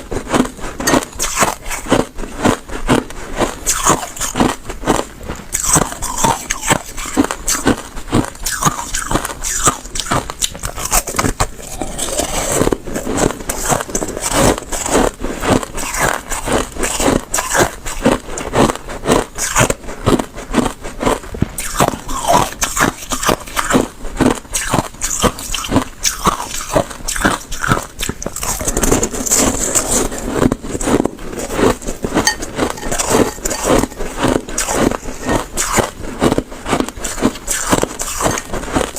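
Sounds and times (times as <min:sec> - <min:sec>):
slushy ice being chewed: 0:00.0 - 0:38.9.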